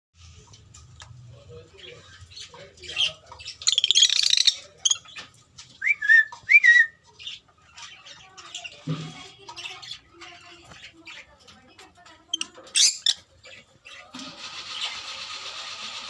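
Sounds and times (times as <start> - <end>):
small bird chirping: 0.8 - 14.1.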